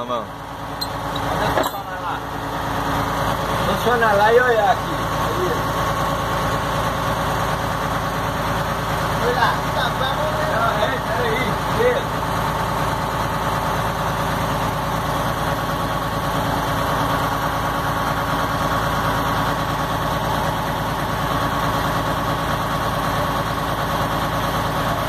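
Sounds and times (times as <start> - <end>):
diesel truck engine idling: 0.0 - 25.0
water pump whine: 0.3 - 25.0.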